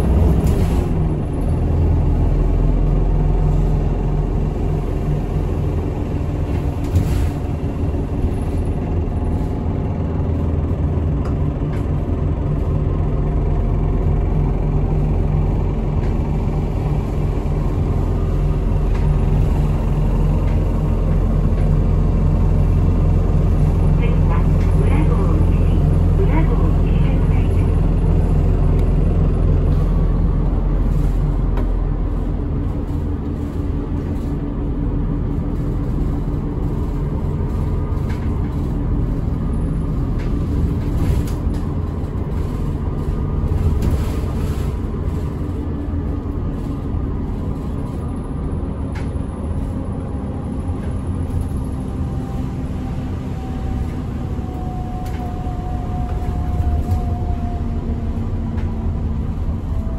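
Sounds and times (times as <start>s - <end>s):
bus engine running: 0.0s - 59.9s
road noise: 0.0s - 59.9s.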